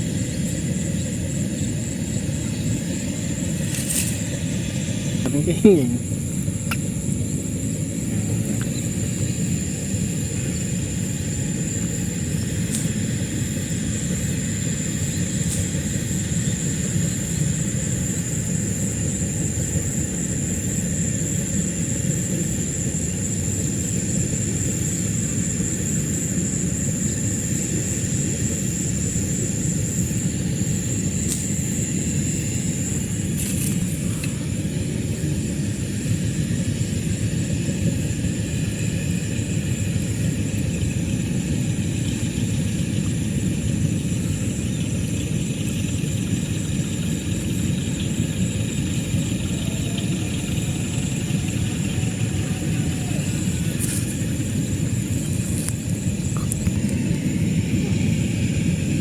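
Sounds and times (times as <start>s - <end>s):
high-pitched whine: 0.0s - 59.0s
low outdoor rumble: 0.0s - 59.0s.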